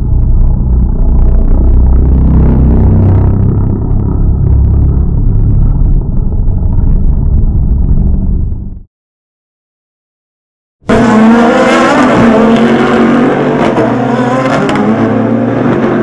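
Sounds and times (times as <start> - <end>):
race car engines rumbling: 0.0 - 8.8, 10.9 - 16.0.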